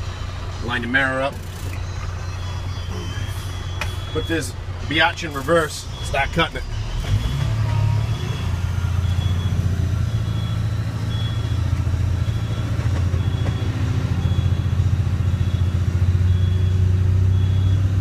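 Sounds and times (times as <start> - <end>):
reverse alarm beeping: 0.0 - 18.0
truck diesel engine running: 0.0 - 18.0.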